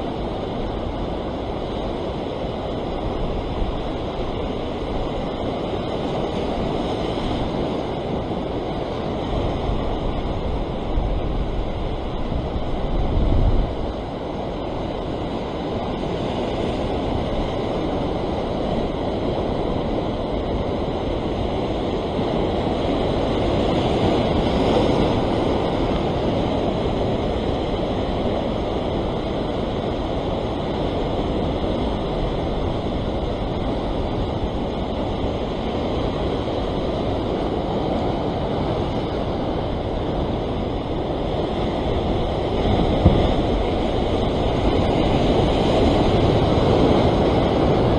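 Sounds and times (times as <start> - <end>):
surf washing over rocks: 0.0 - 47.9
wind buffeting microphone: 0.0 - 47.9.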